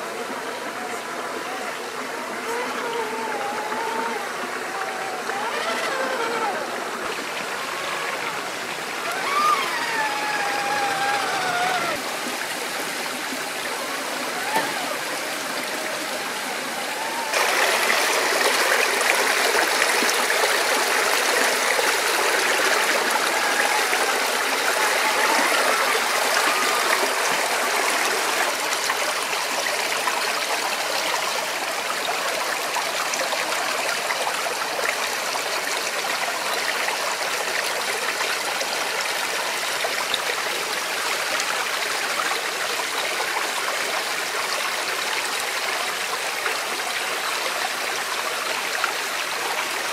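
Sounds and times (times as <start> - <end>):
mountain stream rushing over rocks: 0.0 - 49.9.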